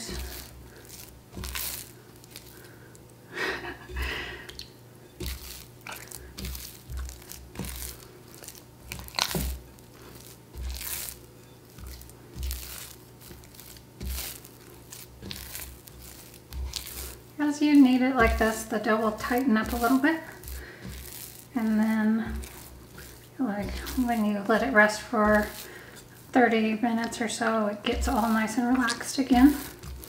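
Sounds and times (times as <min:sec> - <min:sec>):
hands kneading wet dough: 0:00.0 - 0:30.0.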